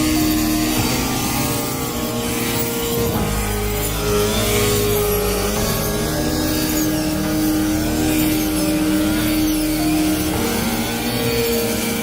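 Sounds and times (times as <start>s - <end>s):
harvester engine running: 0.0s - 12.0s.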